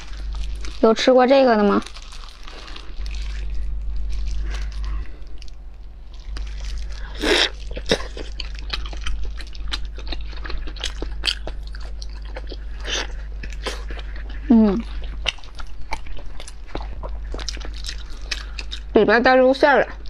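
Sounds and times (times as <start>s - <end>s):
biting and chewing soft food: 0.0s - 20.0s.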